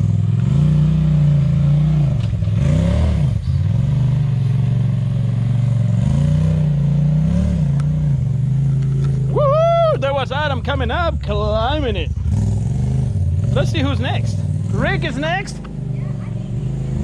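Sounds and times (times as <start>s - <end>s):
utility vehicle engine revving: 0.0s - 17.0s.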